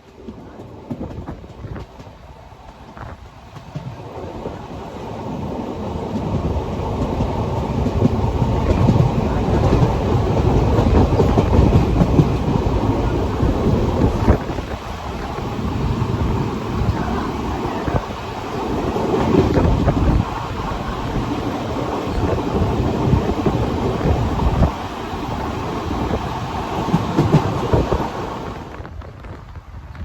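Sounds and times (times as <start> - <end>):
train wheels clattering over rail joints: 0.0 - 29.6.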